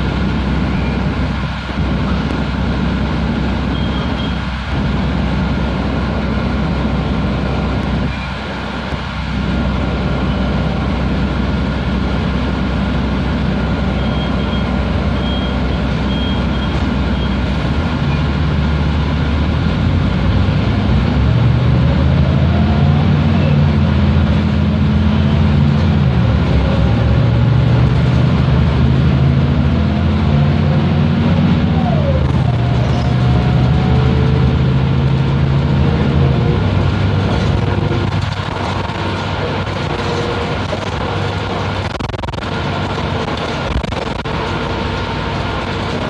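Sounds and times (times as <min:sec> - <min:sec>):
diesel bus engine drone: 0:00.0 - 0:46.0
road noise: 0:00.0 - 0:46.0.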